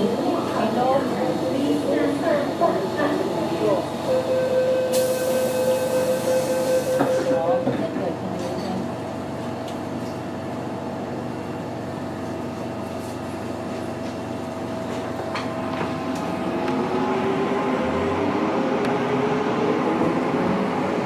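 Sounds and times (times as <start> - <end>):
train running hum: 0.0 - 21.0.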